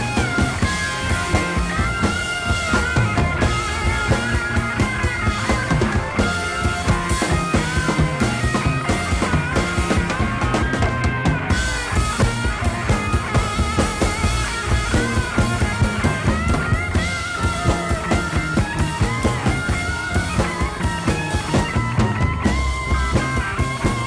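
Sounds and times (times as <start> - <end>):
rock music: 0.0 - 24.0.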